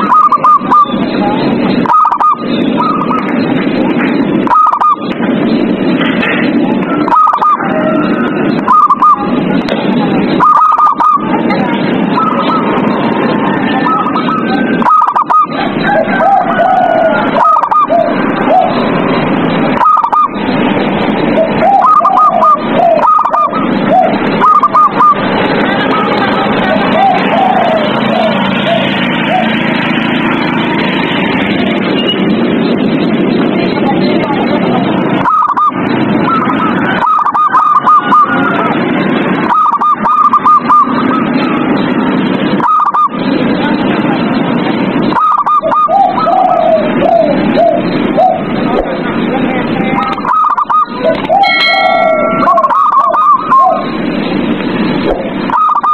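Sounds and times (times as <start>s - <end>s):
doves cooing: 0.0s - 33.3s, 34.8s - 43.6s, 44.4s - 49.2s, 49.8s - 55.9s.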